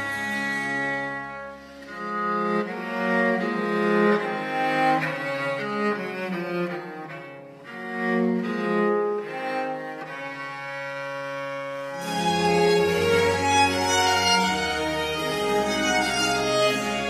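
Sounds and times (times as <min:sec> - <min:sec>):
slow string music: 0:00.0 - 0:17.0.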